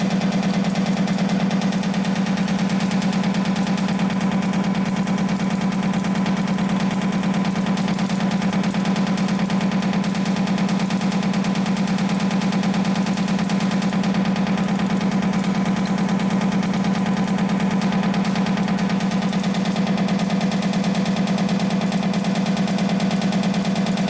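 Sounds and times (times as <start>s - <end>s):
machine clattering: 0.0s - 24.0s
machine low hum: 0.0s - 24.0s.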